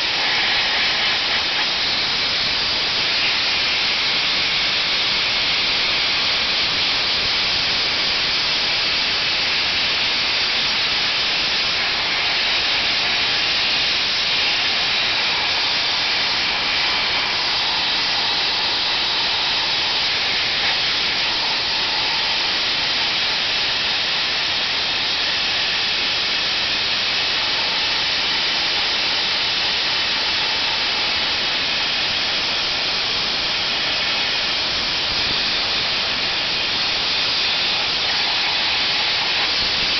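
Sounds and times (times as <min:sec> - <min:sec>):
sandblaster nozzle hissing: 0:00.0 - 0:39.9.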